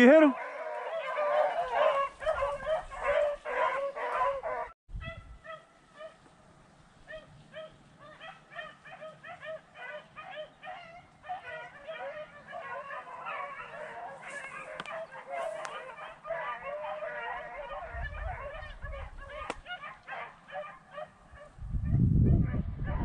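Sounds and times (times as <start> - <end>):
dogs baying: 0.2 - 4.8, 7.1 - 21.6.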